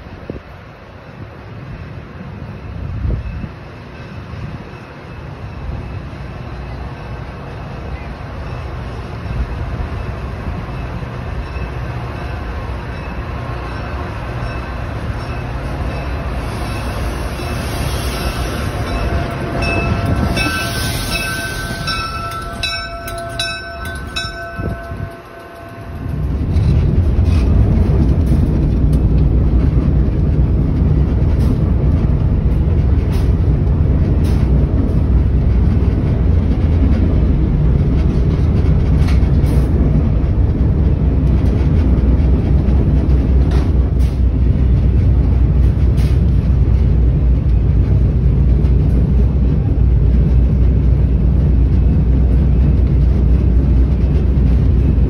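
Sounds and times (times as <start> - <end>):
train arriving at platform: 0.0 - 55.0
train running rumble: 0.0 - 55.0.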